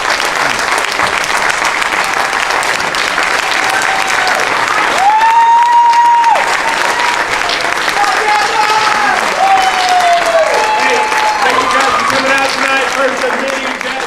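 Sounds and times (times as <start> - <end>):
audience applauding and cheering: 0.0 - 14.0
loud high-pitched cheer: 1.9 - 14.0.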